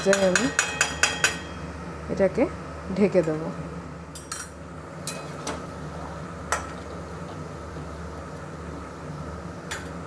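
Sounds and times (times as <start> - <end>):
low kitchen hum: 0.0 - 10.0.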